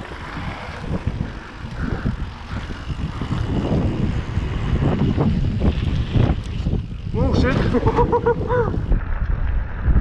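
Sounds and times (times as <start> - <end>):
bike rattling over bumps: 0.0 - 10.0
bike tyres rumbling on dirt: 0.0 - 10.0
wind buffeting microphone: 0.0 - 10.0.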